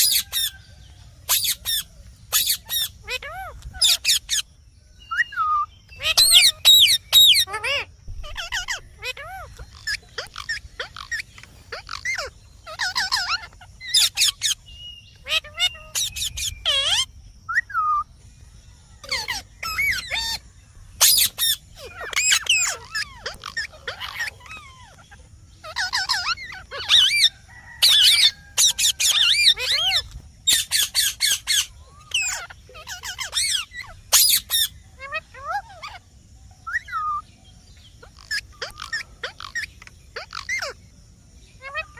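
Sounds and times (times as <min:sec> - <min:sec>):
parakeet shrill calls: 0:00.0 - 0:18.1, 0:19.0 - 0:40.8, 0:41.6 - 0:41.9.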